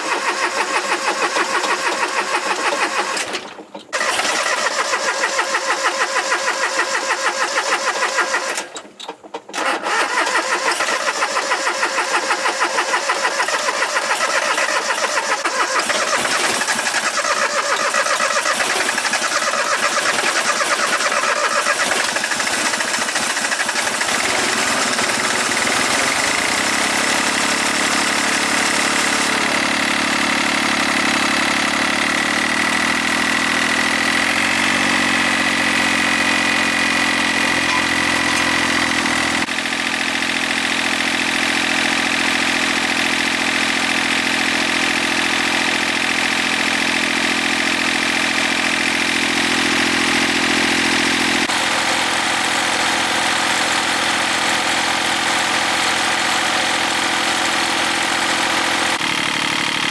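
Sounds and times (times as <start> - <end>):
farm machine engine running: 0.0 - 59.9.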